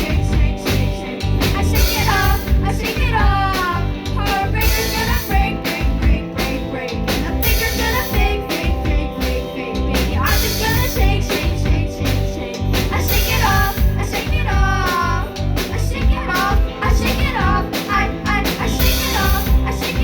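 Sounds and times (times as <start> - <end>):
drum kit with crashing cymbals: 0.0 - 20.0
electric guitar: 0.0 - 20.0
person singing: 0.0 - 20.0.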